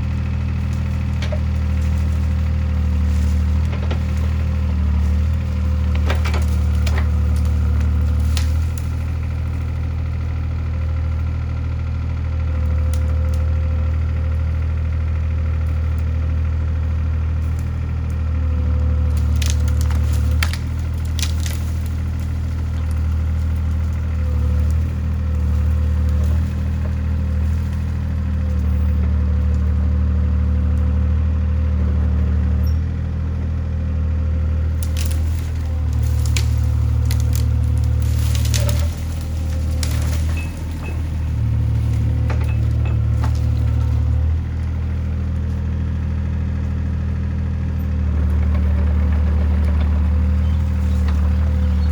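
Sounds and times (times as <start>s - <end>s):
wood cracking and splintering: 0.0s - 33.0s, 34.0s - 51.9s
excavator diesel engine running: 0.0s - 51.9s.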